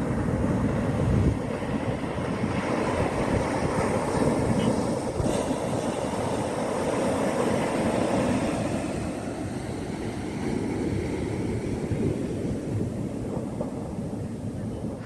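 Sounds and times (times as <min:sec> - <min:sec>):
waves breaking on a shore: 0:00.0 - 0:15.0.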